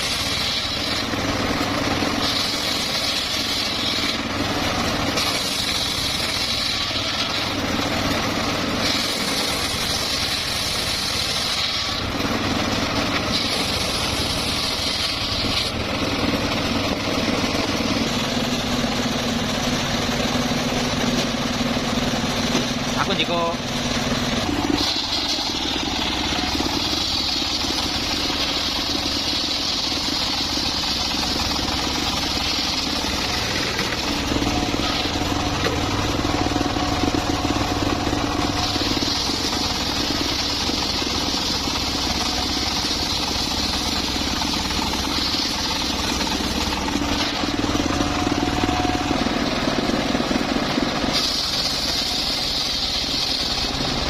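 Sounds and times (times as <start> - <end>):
circular saw cutting wood: 0.0 - 54.0
low machine hum: 0.0 - 54.0.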